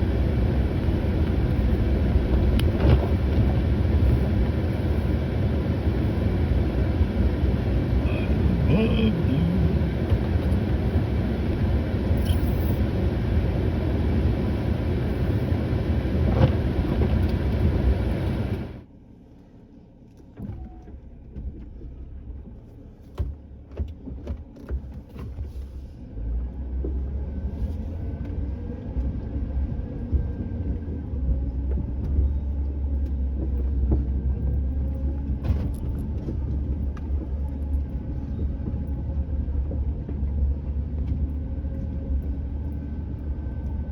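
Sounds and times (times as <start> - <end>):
vehicle engine rumbling: 0.0 - 43.9.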